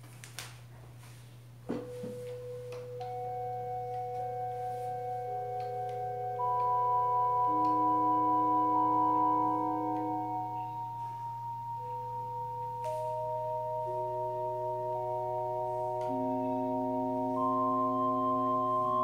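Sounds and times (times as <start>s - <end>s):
steady low hum: 0.0s - 19.0s
electronic keyboard long notes: 1.7s - 19.0s.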